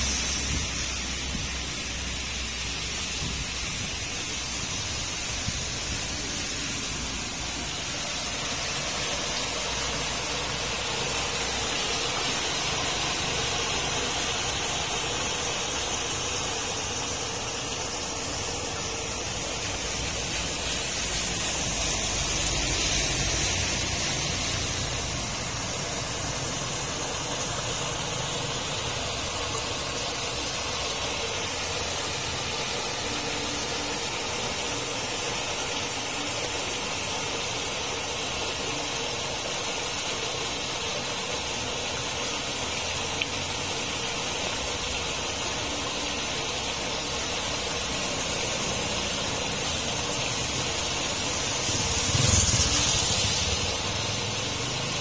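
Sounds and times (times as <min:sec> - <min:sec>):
rain falling on water: 0:00.0 - 0:55.0
water gushing through a grate: 0:00.0 - 0:55.0.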